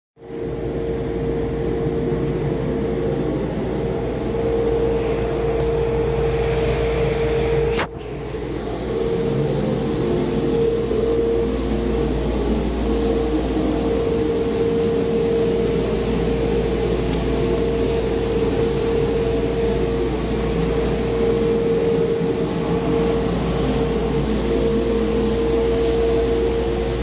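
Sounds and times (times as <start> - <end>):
diesel engine running: 0.2 - 27.0
steady whine: 0.2 - 27.0.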